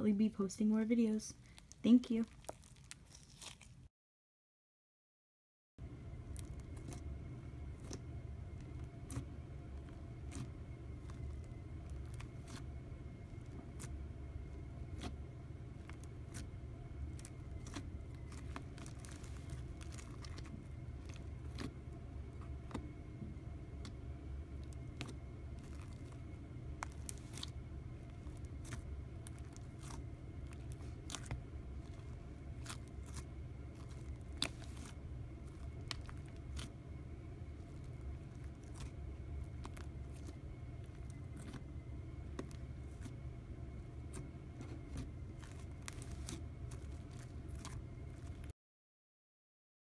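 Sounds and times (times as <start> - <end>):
steady low hum: 0.0 - 3.9, 5.8 - 48.6
slime with beads crackling: 1.3 - 3.9, 7.7 - 15.2, 15.8 - 22.8, 24.6 - 43.2, 44.0 - 48.5.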